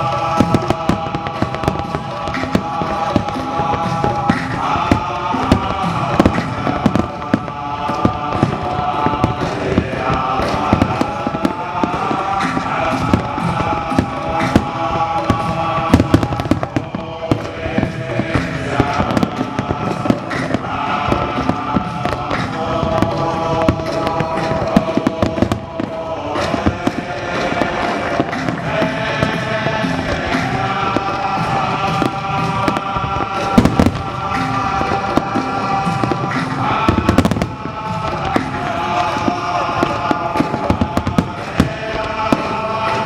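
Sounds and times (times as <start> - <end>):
fireworks bursting: 0.0 - 43.0
music with held notes: 0.0 - 43.0.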